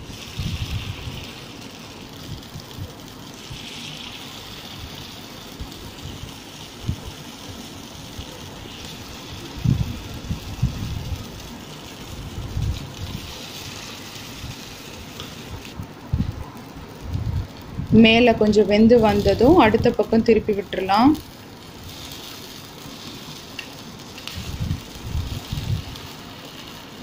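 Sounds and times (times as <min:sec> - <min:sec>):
batter balls sizzling in fat: 0:00.0 - 0:27.0.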